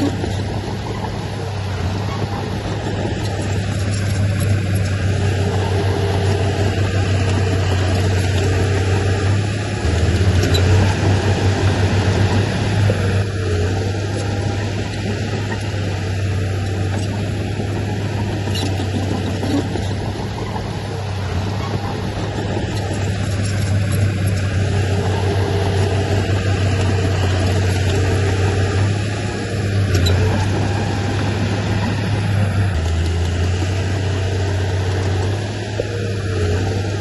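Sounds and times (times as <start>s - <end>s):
diesel engine drone: 0.0s - 37.0s.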